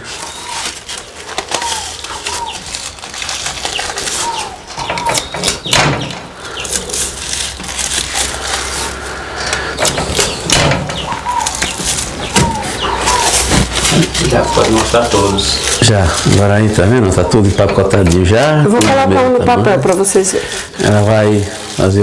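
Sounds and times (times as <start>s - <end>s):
hens and birds chirping: 0.0s - 22.0s
plastic wrapping crinkling: 0.0s - 22.0s.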